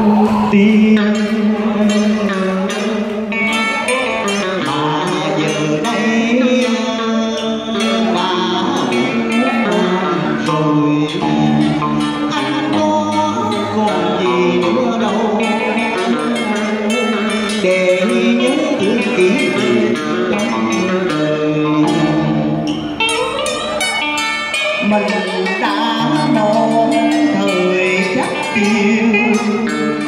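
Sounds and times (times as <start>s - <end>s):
electric guitar plucking: 0.0s - 30.0s
person singing: 0.0s - 30.0s.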